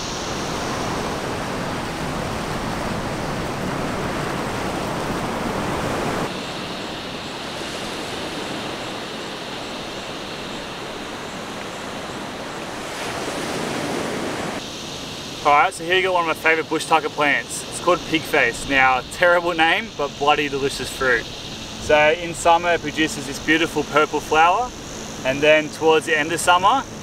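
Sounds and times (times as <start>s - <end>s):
ocean surf breaking on a beach: 0.0s - 27.0s.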